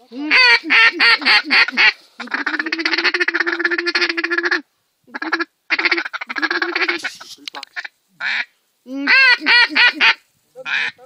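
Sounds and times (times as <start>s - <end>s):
duck quacking: 0.2s - 11.0s.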